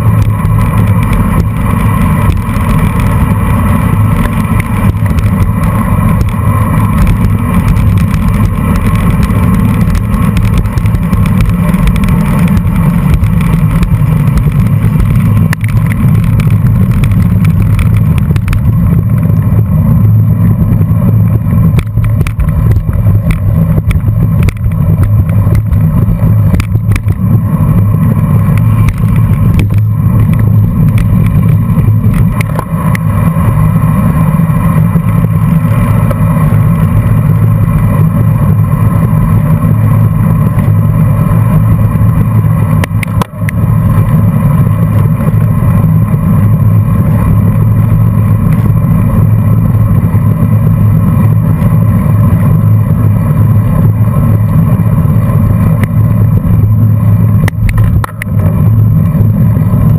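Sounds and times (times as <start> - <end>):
tyre and road noise: 0.0 - 59.9
wind buffeting microphone: 0.0 - 59.9.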